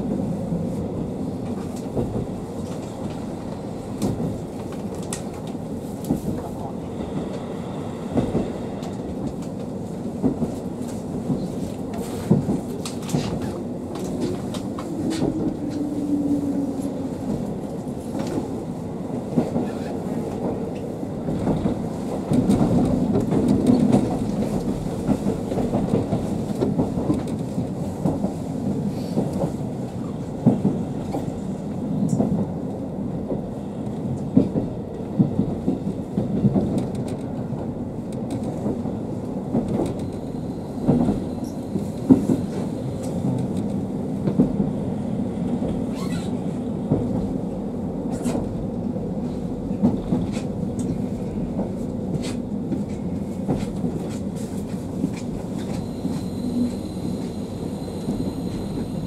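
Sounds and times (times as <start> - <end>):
railcar engine and wheels rumbling: 0.0 - 59.0.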